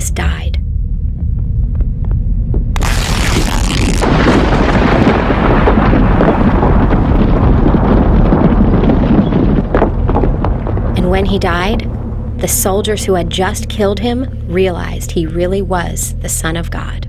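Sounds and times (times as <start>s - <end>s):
thunder rumble and crack: 0.2s - 15.8s.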